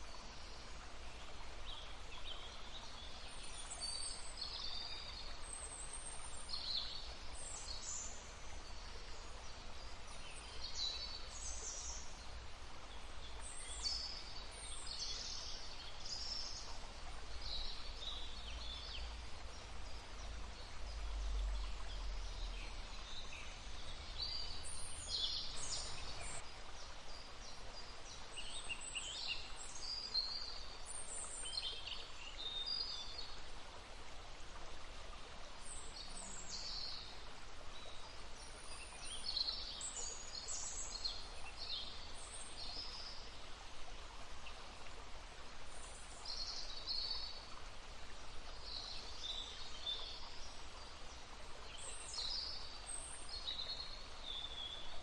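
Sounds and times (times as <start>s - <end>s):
small stream babbling: 0.0s - 55.0s
songbirds chirping: 0.0s - 55.0s.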